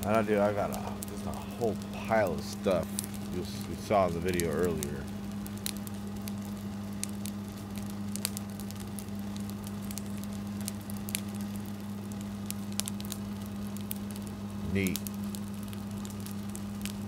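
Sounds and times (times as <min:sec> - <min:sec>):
campfire crackling and popping: 0:00.0 - 0:17.0
steady low hum: 0:00.0 - 0:17.0.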